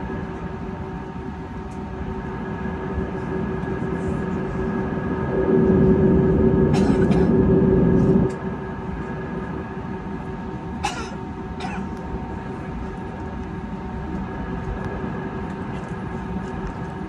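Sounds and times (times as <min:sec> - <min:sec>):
aircraft cabin hum: 0:00.0 - 0:17.0
heavy rumble: 0:00.0 - 0:17.0.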